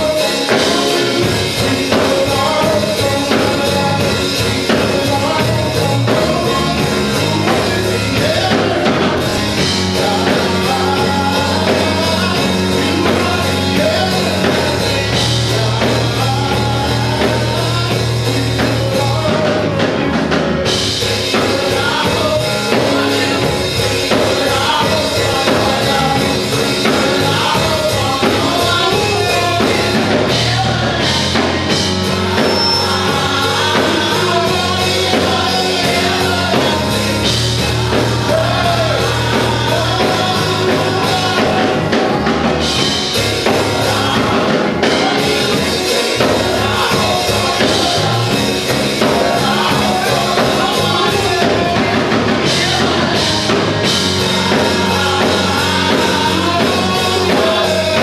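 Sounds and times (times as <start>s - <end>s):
bass guitar: 0.0s - 58.0s
drum kit: 0.0s - 58.0s
group singing gospel song: 0.0s - 58.0s
keyboard: 0.0s - 58.0s.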